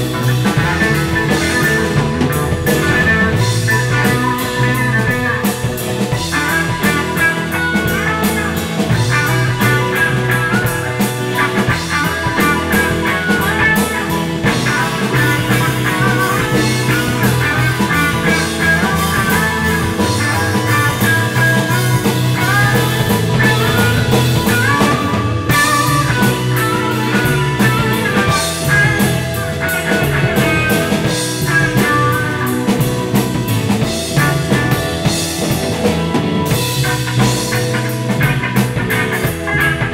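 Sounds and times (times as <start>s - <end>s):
bass guitar: 0.0s - 39.9s
drum kit: 0.0s - 39.9s
electric guitars: 0.0s - 39.9s
keyboard: 0.0s - 39.9s
lead guitar bending pitch: 0.0s - 39.9s.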